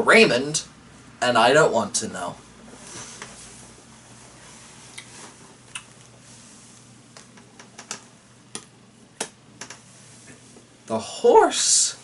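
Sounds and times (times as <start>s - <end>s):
low steady room hum: 0.0s - 12.0s.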